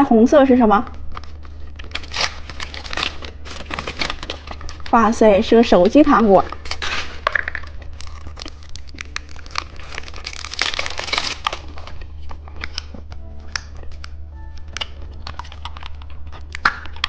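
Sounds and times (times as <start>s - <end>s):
plastic packaging crinkling: 1.0s - 17.0s.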